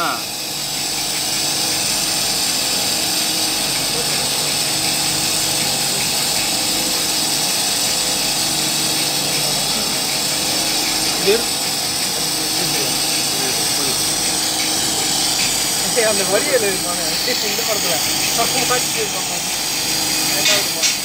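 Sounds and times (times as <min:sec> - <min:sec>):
mechanical hum: 0:00.0 - 0:21.0
torch flame hissing: 0:00.0 - 0:21.0.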